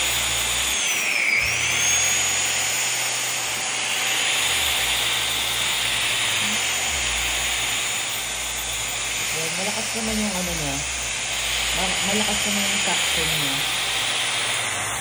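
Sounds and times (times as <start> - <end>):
handheld vacuum whining: 0.0 - 15.0.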